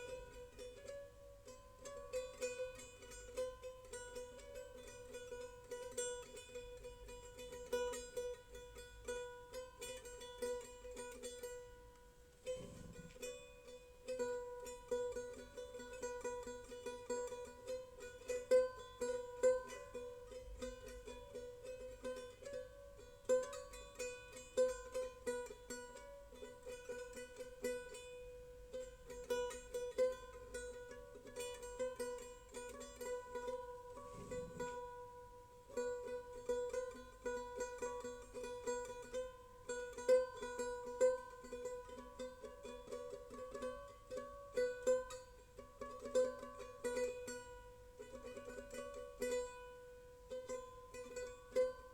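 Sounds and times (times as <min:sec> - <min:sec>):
plucked strings tune: 0:00.0 - 0:51.9.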